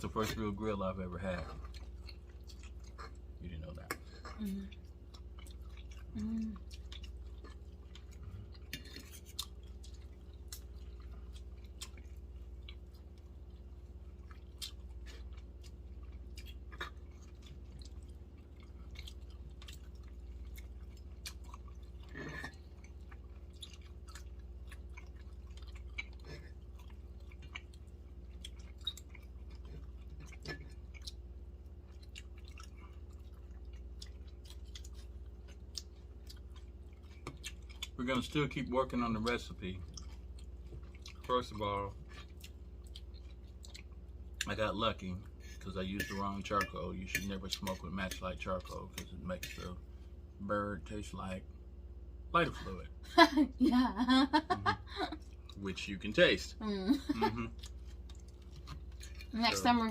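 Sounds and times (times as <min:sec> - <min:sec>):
people chewing: 0:00.0 - 0:49.9, 0:54.4 - 0:59.9
steady low hum: 0:00.0 - 0:59.9.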